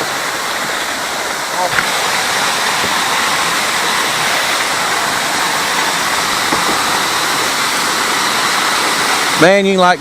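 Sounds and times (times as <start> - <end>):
waterfall over rock: 0.0 - 10.0.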